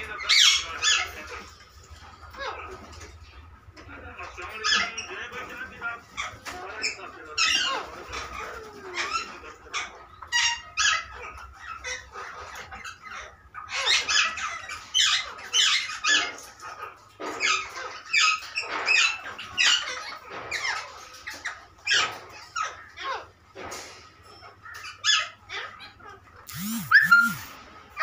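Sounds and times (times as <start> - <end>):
parakeets screeching and chirping: 0.0 - 28.0.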